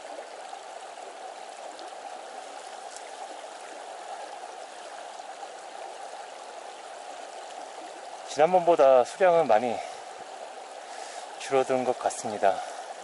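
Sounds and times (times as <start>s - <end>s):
river running over rocks: 0.0s - 13.0s.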